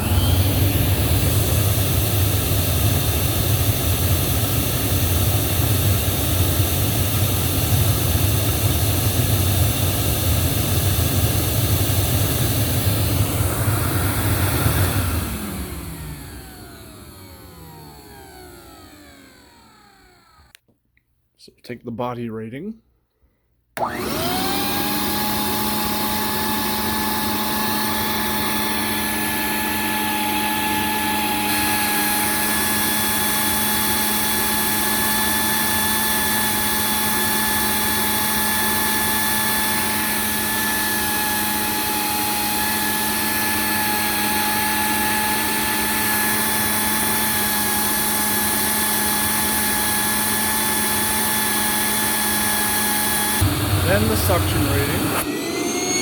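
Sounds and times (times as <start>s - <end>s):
vacuum motor whine: 0.0s - 20.6s, 23.8s - 56.0s.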